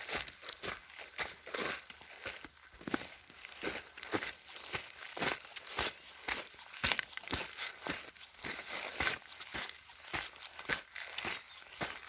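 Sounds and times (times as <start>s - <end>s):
footsteps crunching through leaves: 0.0s - 12.0s.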